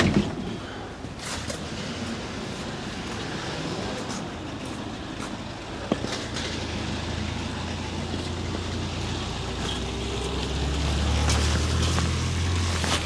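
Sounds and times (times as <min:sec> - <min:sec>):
truck engine droning: 0:00.2 - 0:13.0.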